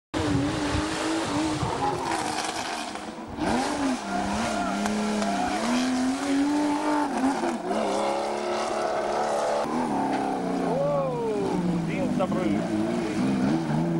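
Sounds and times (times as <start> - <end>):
rally car engine passing at speed: 0.2 - 13.9.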